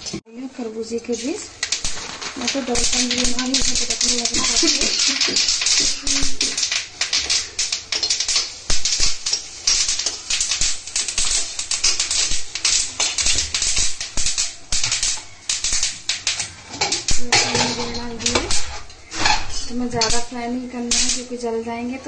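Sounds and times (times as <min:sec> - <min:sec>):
seeds crackling in hot fat: 0:00.8 - 0:21.6.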